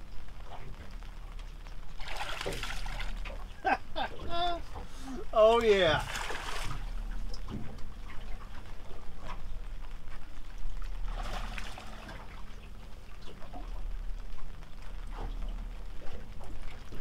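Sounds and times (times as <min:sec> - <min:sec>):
low rumble: 0:00.0 - 0:17.0
water lapping against boat hull: 0:00.0 - 0:17.0.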